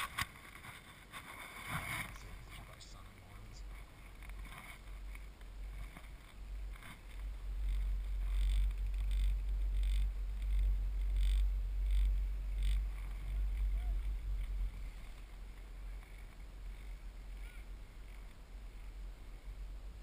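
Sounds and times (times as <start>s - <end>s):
wind buffeting microphone: 1.6s - 20.0s.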